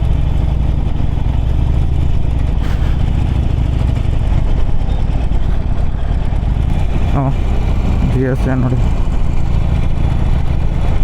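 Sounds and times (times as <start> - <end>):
motorcycle engine cruising: 0.0 - 11.0
road and wind noise: 0.0 - 11.0.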